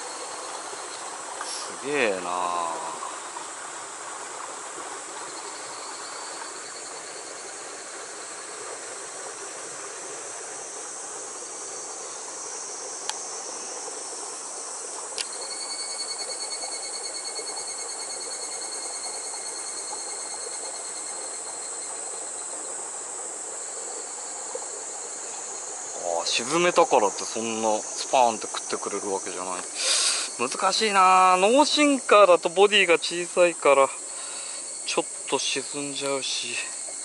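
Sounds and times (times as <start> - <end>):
insects trilling: 0.0 - 37.0
running water hiss: 0.0 - 37.0.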